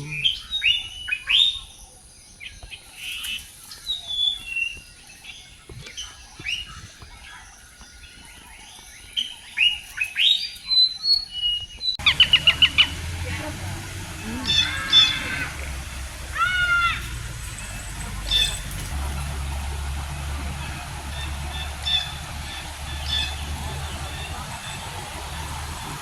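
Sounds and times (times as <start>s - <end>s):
birds chirping and calling: 0.0s - 26.0s.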